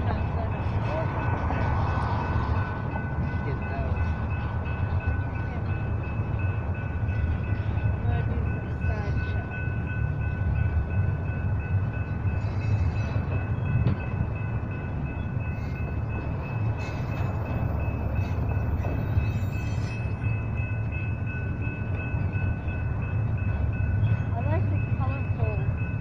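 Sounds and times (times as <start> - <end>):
freight cars rumbling past: 0.0 - 26.0.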